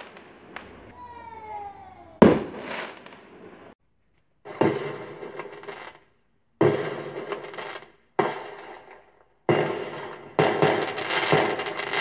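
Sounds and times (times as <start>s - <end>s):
fireworks bangs: 0.0s - 3.8s, 4.4s - 12.0s
fireworks crackling: 0.0s - 3.8s, 4.4s - 12.0s.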